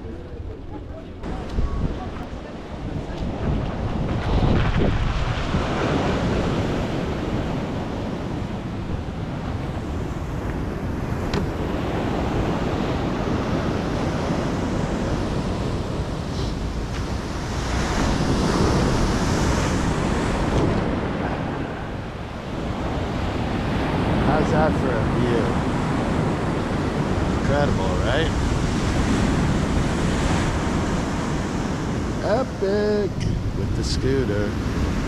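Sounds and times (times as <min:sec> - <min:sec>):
waves breaking on shore: 0:00.0 - 0:35.0
wind buffeting microphone: 0:00.0 - 0:35.0.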